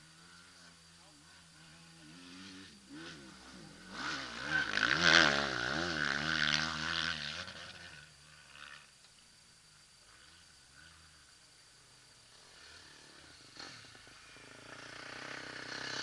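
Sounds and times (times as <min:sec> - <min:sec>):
motocross bike engine revving: 0:00.0 - 0:09.0, 0:10.0 - 0:16.0.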